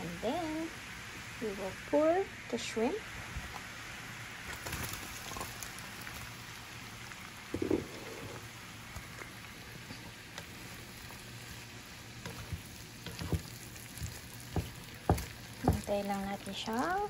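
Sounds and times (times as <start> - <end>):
butter sizzling in a frying pan: 0.0 - 17.0.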